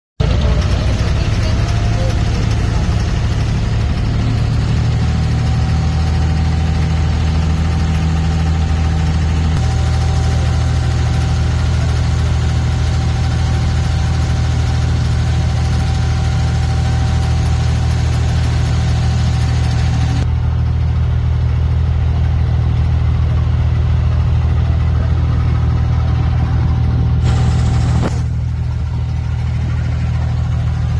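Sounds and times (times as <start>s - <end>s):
boat diesel engine droning: 0.2s - 30.9s.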